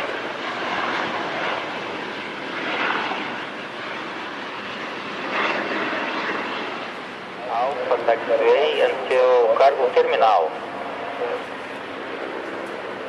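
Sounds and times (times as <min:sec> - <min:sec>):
jet engine rushing noise: 0:00.0 - 0:13.0.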